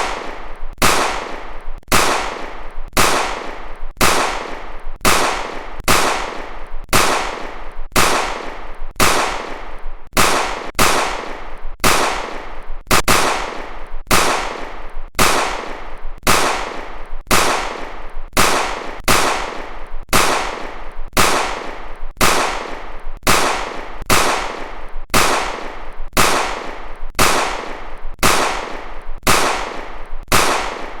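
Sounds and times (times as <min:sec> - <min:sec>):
pistol gunshots: 0:00.0 - 0:31.0.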